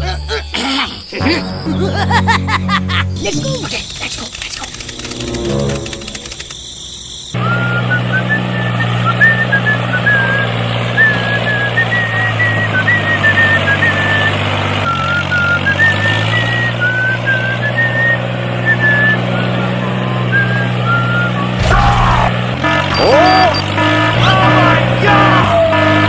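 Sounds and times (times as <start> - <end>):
tractor engine droning: 1.4 - 26.0.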